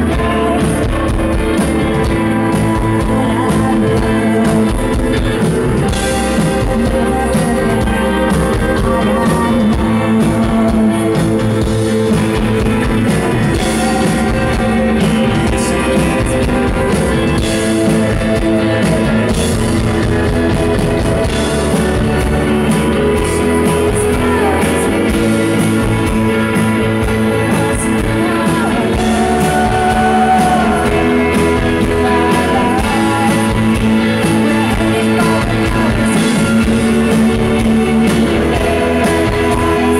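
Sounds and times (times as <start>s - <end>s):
woman singing: 0.0s - 21.4s, 22.2s - 39.9s
rock band playing live: 0.0s - 39.9s.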